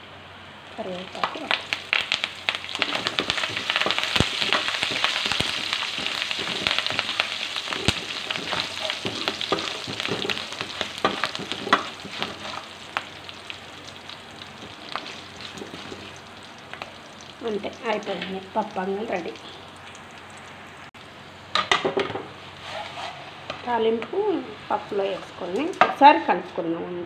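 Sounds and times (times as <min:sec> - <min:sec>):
leaves crackling in hot oil: 0:00.5 - 0:25.9.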